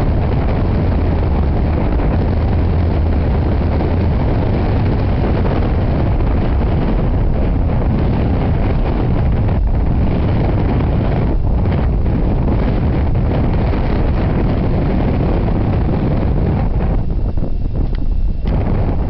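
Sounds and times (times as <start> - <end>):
loud low rumbling: 0.0 - 19.0.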